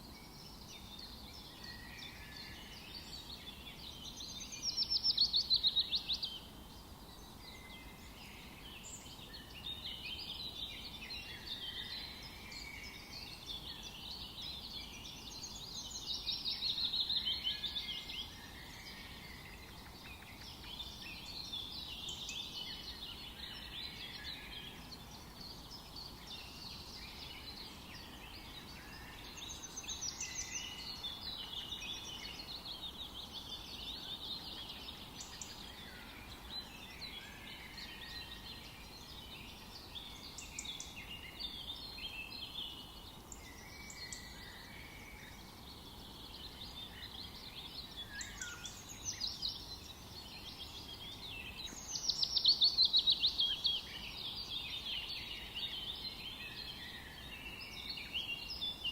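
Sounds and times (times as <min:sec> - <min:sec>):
songbirds singing and calling: 0:00.0 - 0:58.9.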